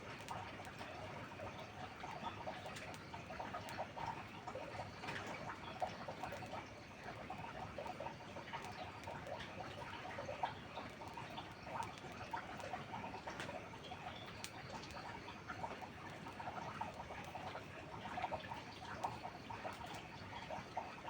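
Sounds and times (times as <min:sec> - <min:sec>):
wood fire crackling: 0:00.0 - 0:20.6
rain pattering and dripping: 0:00.0 - 0:21.0.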